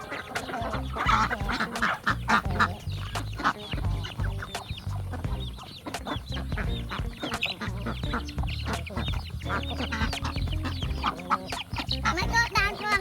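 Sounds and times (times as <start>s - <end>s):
ducks quacking: 0.0s - 13.0s
high thin peeping: 0.0s - 13.0s.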